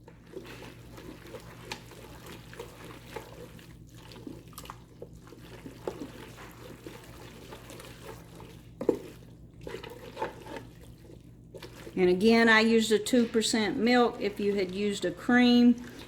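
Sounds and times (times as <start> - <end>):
wet pasta squelching: 0.0 - 16.0.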